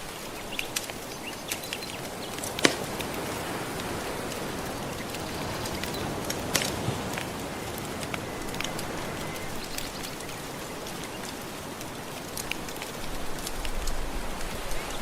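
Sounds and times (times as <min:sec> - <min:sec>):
crackling fire: 0:00.0 - 0:15.0
gentle ocean waves: 0:00.0 - 0:15.0.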